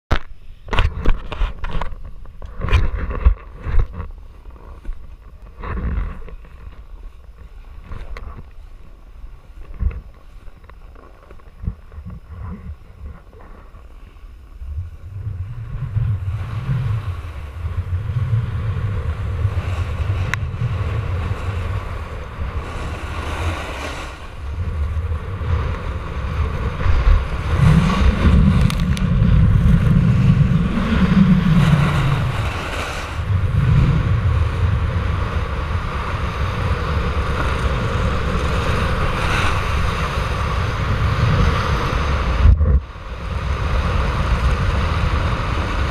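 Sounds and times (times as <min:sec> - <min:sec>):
wind buffeting microphone: 0:00.7 - 0:45.9
skis scraping on snow: 0:03.4 - 0:42.4.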